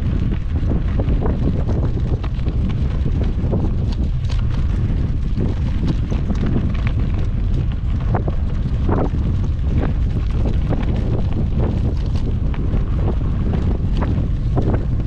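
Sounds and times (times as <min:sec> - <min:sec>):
bike crackling over dirt track: 0:00.0 - 0:15.0
wind buffeting microphone: 0:00.0 - 0:15.0.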